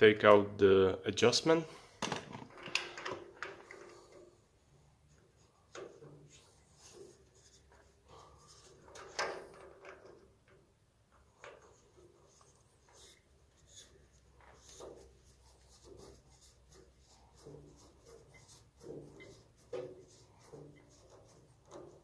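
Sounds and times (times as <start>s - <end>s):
plastic rubbing on metal: 3.3s - 10.2s, 11.2s - 22.0s.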